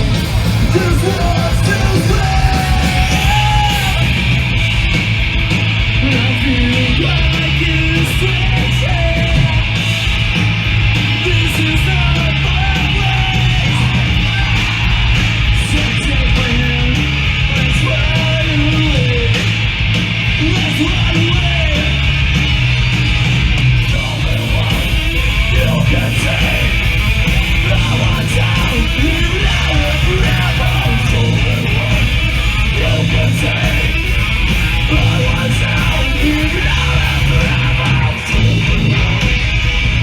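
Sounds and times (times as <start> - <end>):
live band playing loud rock: 0.0 - 40.0.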